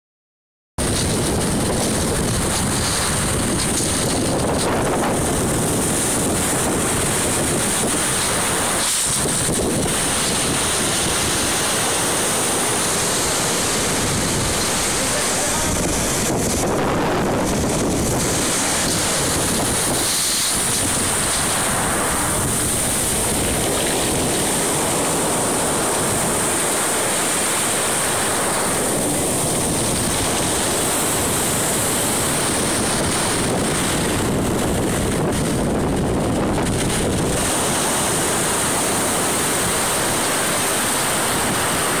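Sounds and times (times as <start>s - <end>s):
heavy waves breaking: 0.8s - 42.0s
wind buffeting microphone: 0.8s - 42.0s.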